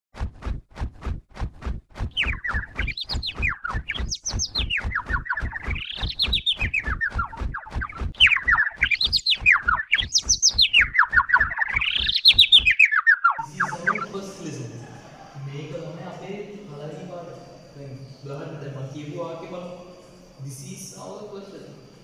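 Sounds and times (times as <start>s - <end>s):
rapid bird-like chirping: 2.0s - 22.0s.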